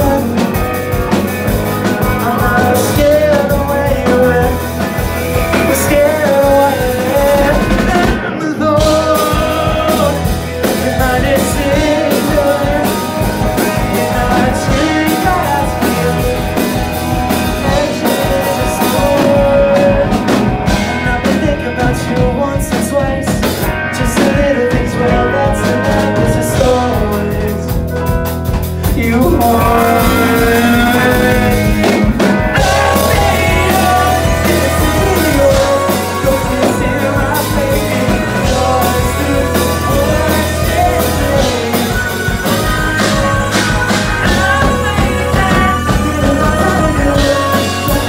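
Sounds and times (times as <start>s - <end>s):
drum kit: 0.0s - 48.0s
electric guitar: 0.0s - 48.0s
keyboard: 0.0s - 48.0s
man singing: 0.0s - 48.0s.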